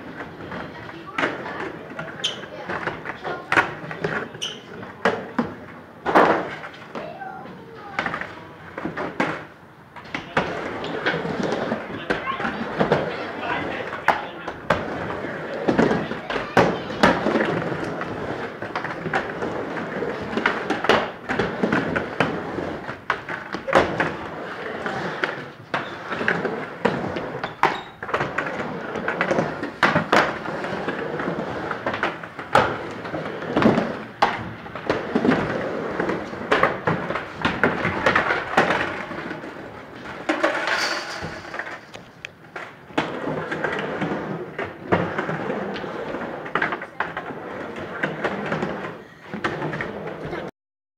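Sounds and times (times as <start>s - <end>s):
skateboard wheels rolling on wood: 0.0s - 50.5s.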